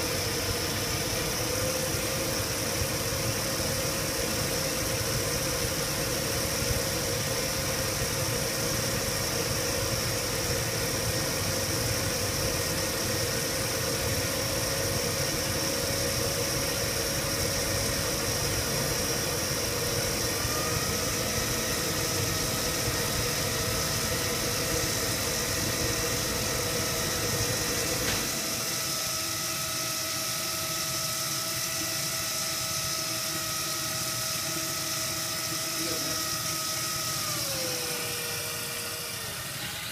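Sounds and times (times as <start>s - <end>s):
electric pump motor whining: 0.0s - 39.9s.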